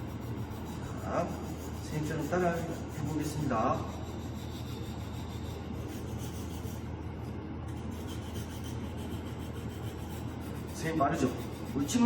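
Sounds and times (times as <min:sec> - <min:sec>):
sandpaper scraping on wood: 0:00.0 - 0:06.9, 0:07.7 - 0:12.0.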